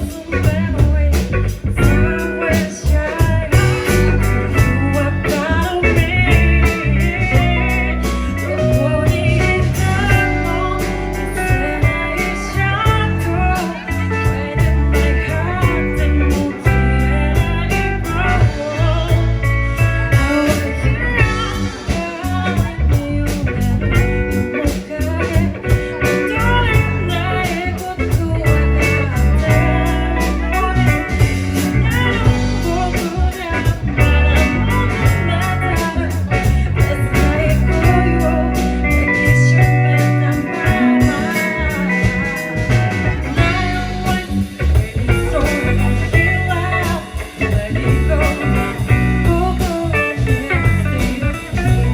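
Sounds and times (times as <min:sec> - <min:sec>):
electric guitar: 0:00.0 - 0:51.9
live band playing blues: 0:00.0 - 0:51.9.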